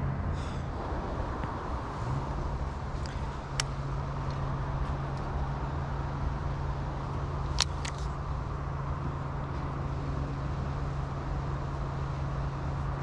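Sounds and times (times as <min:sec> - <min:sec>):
low hum: 0:00.0 - 0:13.0
low outdoor rumble: 0:00.0 - 0:13.0.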